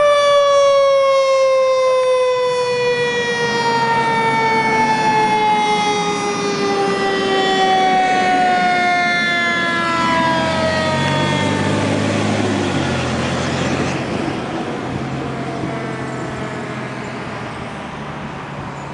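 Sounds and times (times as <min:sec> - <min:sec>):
fire engine siren wailing: 0:00.0 - 0:18.9
truck engine rumble: 0:00.0 - 0:18.9.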